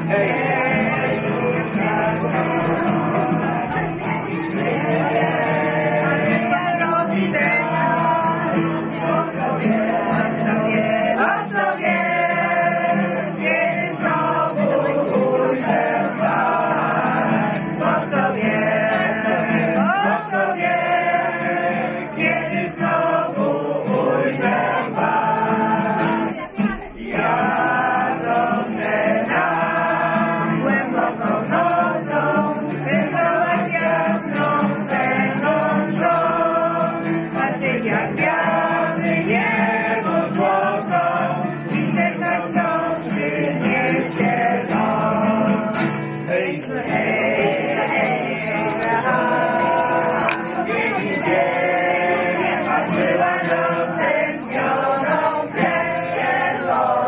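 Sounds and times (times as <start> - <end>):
group singing: 0.0 - 57.0
strummed acoustic guitars: 0.0 - 57.0.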